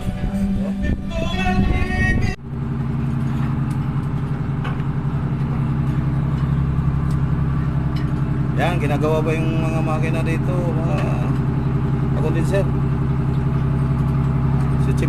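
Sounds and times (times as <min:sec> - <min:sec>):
tugboat engine running: 0:00.0 - 0:15.0.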